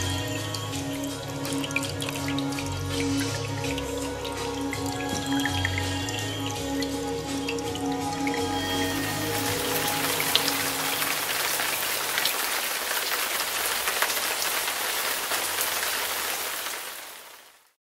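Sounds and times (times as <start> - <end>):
fountain water trickling: 0.0 - 17.8.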